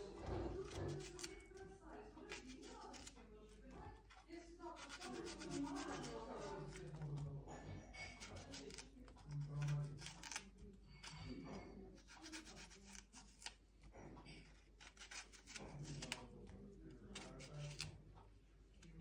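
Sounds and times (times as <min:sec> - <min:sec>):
knife scraping fruit skin: 0:00.0 - 0:01.6, 0:02.2 - 0:03.5, 0:04.1 - 0:07.2, 0:08.0 - 0:18.0.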